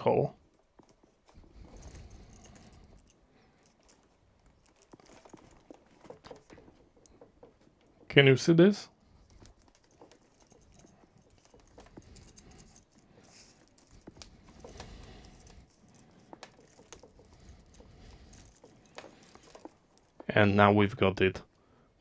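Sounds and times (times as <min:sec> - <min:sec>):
soft rustling: 0:00.4 - 0:08.3, 0:08.9 - 0:20.5.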